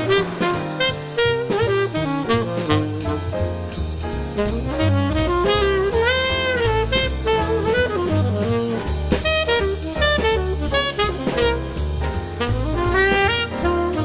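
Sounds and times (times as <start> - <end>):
jazz music: 0.0 - 14.0.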